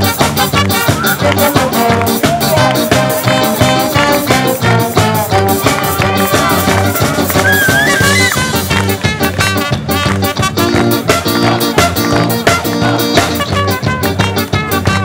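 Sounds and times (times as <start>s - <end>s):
live band playing upbeat tune: 0.0s - 15.0s
steady drum beat: 0.0s - 15.0s.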